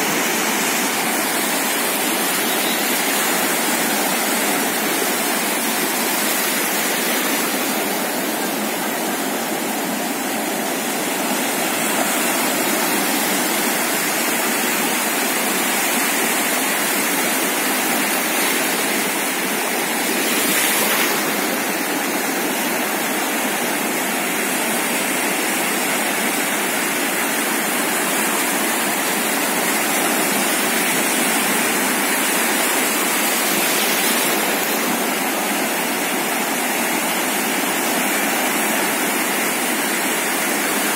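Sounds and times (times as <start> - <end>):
sea surf washing on shore: 0.0 - 40.9.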